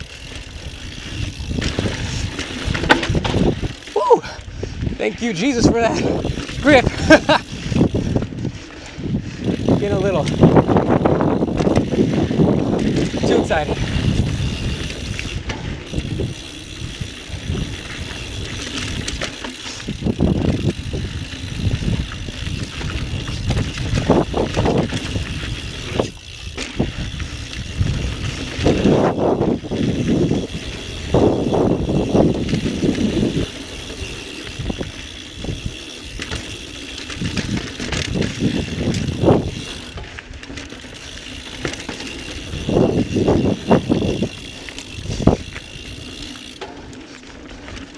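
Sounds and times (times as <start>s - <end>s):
bike rattling over rough ground: 0.0s - 47.9s
mountain bike tyres on dirt trail: 0.0s - 47.9s.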